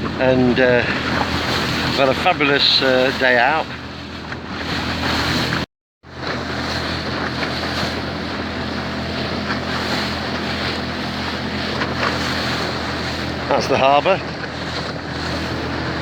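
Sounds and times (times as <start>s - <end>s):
boat motor running: 0.0s - 16.0s
water rushing past hull: 0.0s - 16.0s
wind buffeting microphone: 0.0s - 16.0s.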